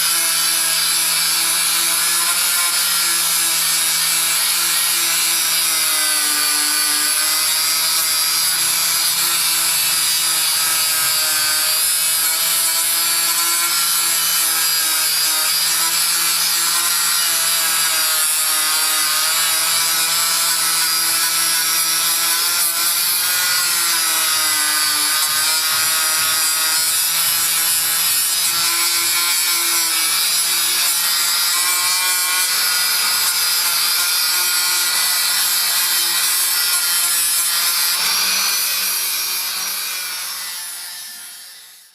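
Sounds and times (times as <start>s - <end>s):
power tool motor whine: 0.0s - 41.9s.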